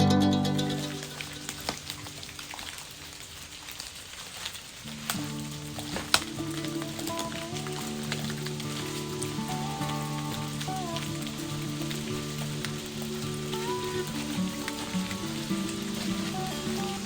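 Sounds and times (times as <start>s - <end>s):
background music sustained notes: 0.0s - 1.8s, 5.0s - 17.0s
water splashing and dripping: 0.0s - 17.0s.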